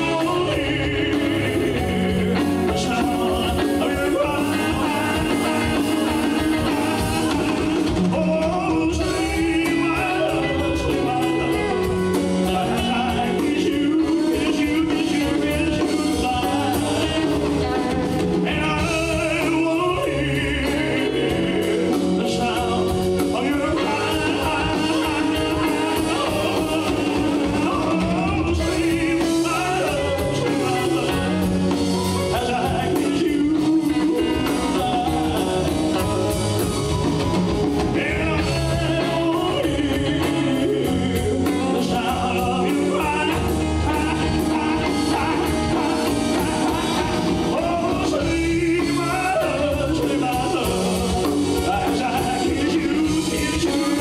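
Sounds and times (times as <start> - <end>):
drums: 0.0 - 54.0
man singing: 0.0 - 54.0
rock band playing: 0.0 - 54.0.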